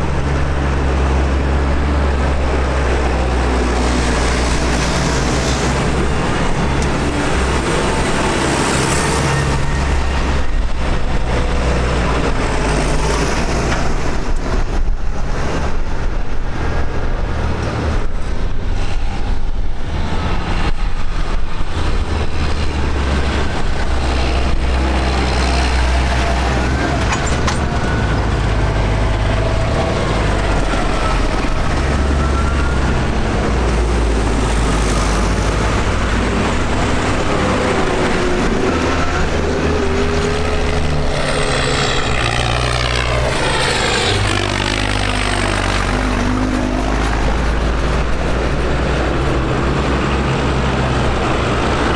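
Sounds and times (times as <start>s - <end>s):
tractor engines droning: 0.0s - 51.9s.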